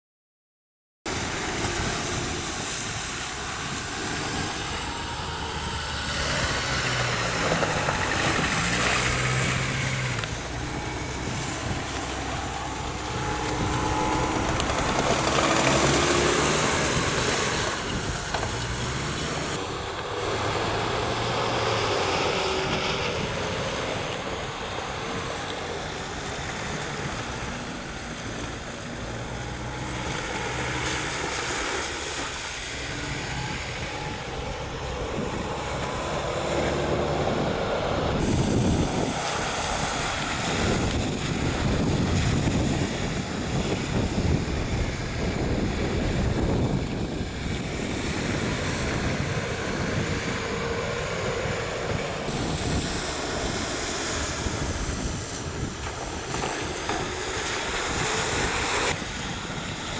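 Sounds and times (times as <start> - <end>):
suv engine revving: 1.1 - 59.1
steady rushing noise: 1.1 - 59.9.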